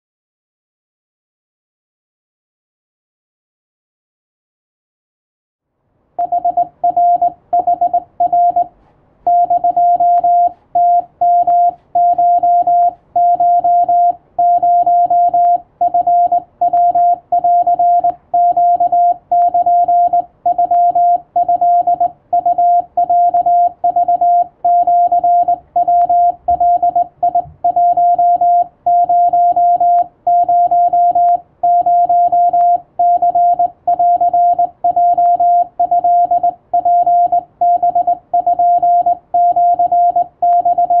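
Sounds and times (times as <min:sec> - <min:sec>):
morse code beeping tone: 0:06.2 - 0:41.0.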